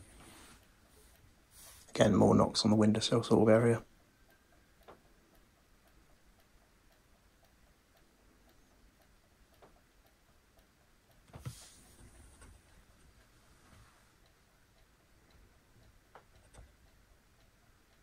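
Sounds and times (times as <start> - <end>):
wall clock ticking: 0.0 - 18.0.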